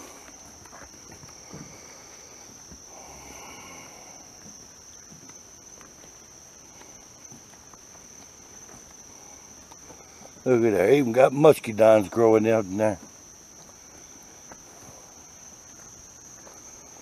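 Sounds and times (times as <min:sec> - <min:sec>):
faint footsteps: 0:00.0 - 0:10.6, 0:12.9 - 0:17.0
crickets chirping: 0:00.0 - 0:17.0.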